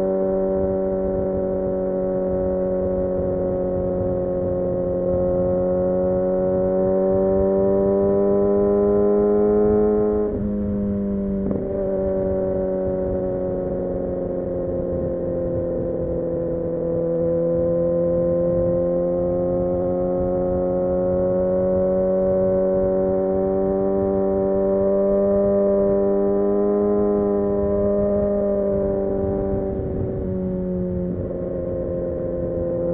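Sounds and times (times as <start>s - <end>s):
motorcycle engine cruising: 0.0s - 32.9s.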